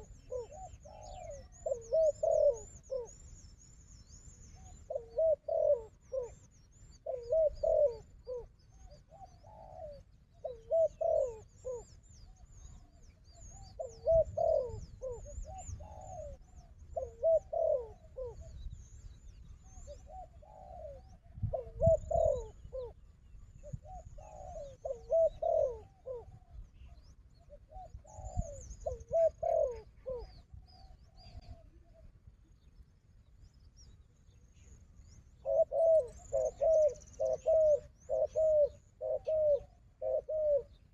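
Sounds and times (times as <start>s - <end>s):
doves cooing: 0.0s - 3.2s, 4.5s - 18.6s, 19.6s - 32.3s, 34.6s - 40.9s.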